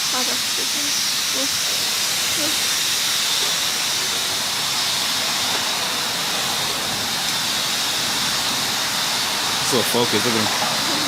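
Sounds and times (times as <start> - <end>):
pressure washer spraying water: 0.0 - 11.0.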